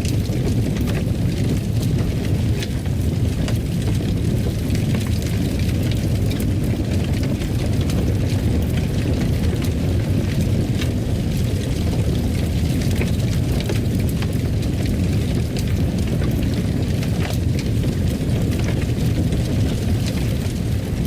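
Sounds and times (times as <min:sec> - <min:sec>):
fire low rumble: 0:00.0 - 0:21.0
wood fire crackling: 0:00.0 - 0:21.0.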